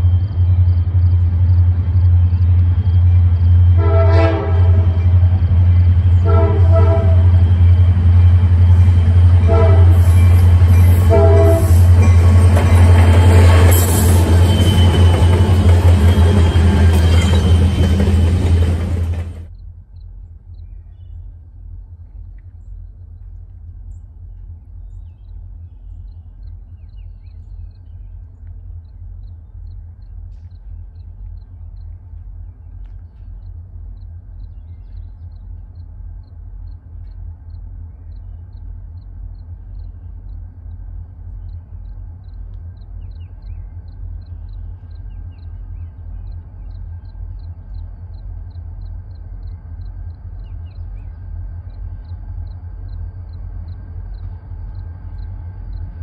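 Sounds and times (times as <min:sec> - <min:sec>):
low steady rumble: 0:00.0 - 0:13.5, 0:18.4 - 0:56.0.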